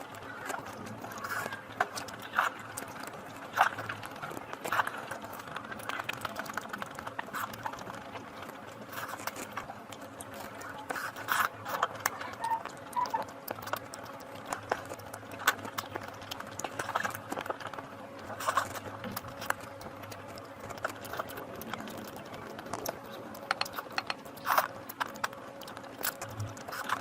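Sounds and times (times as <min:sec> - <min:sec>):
chewing and smacking sounds: 0:00.0 - 0:27.0
faint steady hum: 0:00.0 - 0:27.0.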